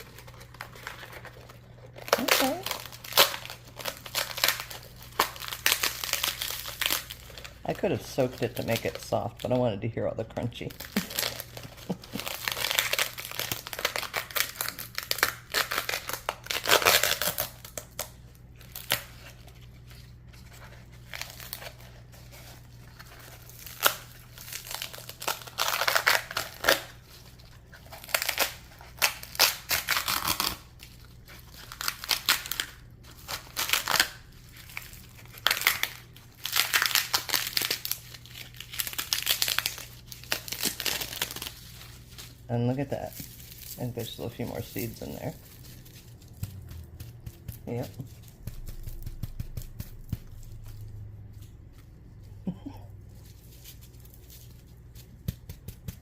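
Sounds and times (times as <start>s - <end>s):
dry gourd skin crackling: 0.0s - 56.0s.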